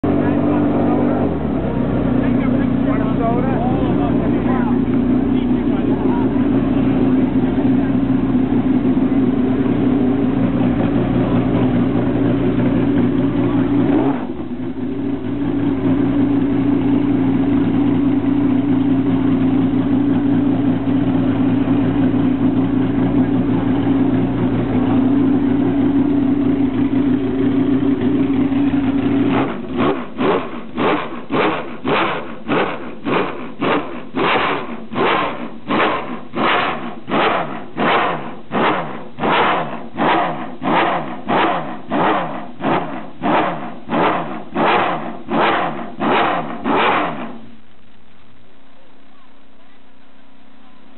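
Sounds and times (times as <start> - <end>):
racing engine idling: 0.0 - 50.9.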